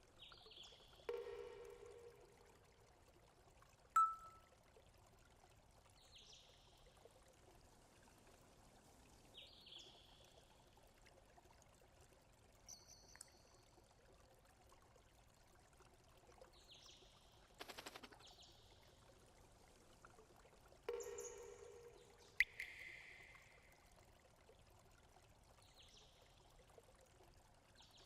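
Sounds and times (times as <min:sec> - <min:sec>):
low steady hiss: 0:00.0 - 0:28.0.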